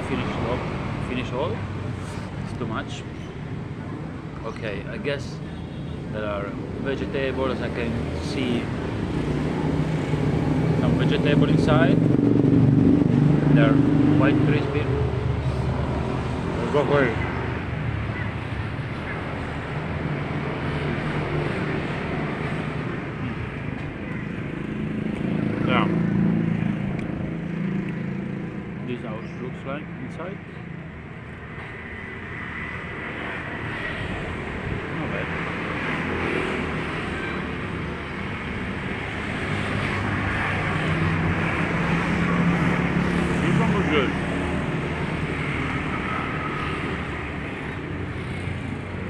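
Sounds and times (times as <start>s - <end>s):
street traffic with engine hum: 0.0s - 49.0s.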